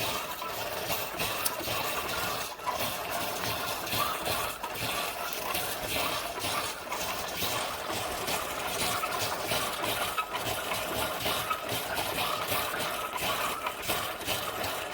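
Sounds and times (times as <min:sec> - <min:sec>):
coffee maker pumping water: 0:00.0 - 0:14.9.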